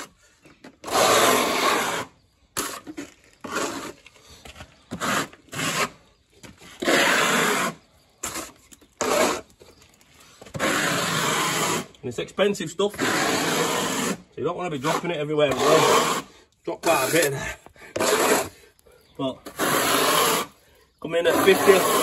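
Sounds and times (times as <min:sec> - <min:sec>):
trowel scraping render: 0:00.0 - 0:22.0.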